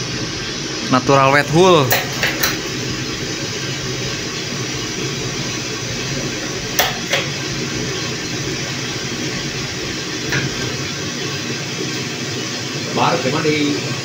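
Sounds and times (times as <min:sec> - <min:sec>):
coffee roaster running: 0:00.0 - 0:14.0.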